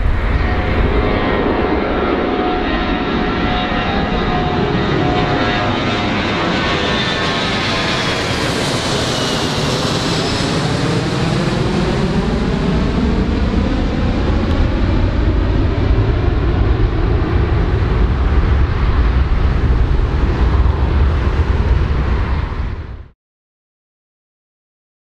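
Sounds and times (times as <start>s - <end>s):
jet engines whining: 0.0s - 23.1s
deep rumble of jet airliner: 0.0s - 23.2s.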